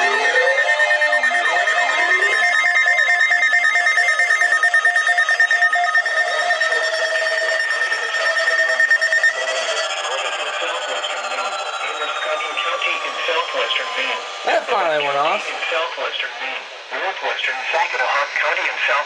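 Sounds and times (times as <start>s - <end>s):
electronic alarm beeps: 0.0s - 15.5s.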